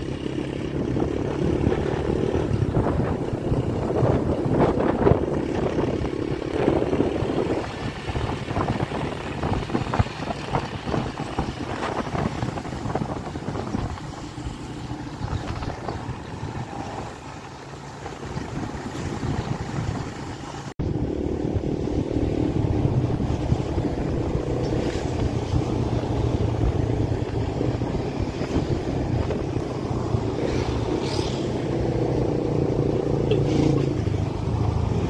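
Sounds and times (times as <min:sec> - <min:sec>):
motorcycle engine running: 0:00.0 - 0:35.0
wind buffeting microphone: 0:00.1 - 0:35.0.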